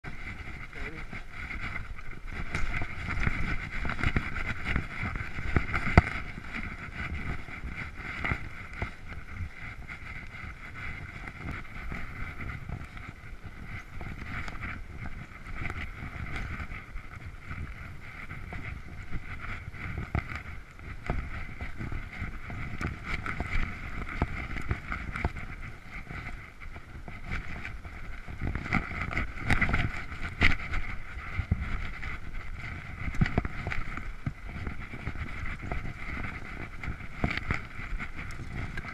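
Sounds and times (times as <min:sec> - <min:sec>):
bike rumbling and rattling: 0:00.0 - 0:38.9
wind buffeting microphone: 0:00.0 - 0:38.9.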